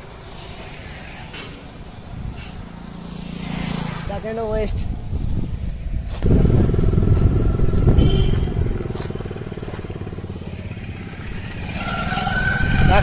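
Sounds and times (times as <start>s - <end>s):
motorcycle engine passing by: 0.4s - 4.4s, 5.1s - 13.0s.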